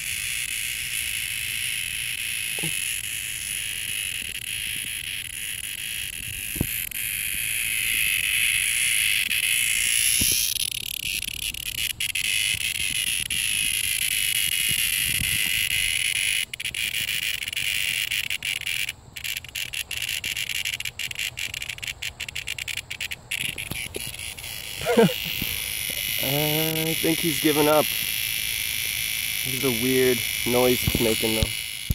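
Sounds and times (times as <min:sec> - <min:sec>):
cicada buzzing: 0:00.0 - 0:31.9.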